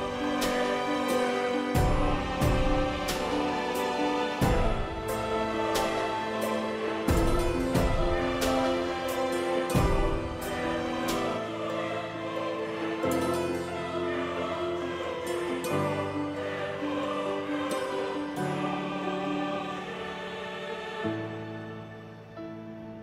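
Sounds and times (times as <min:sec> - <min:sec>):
background music with held chords: 0:00.0 - 0:23.0.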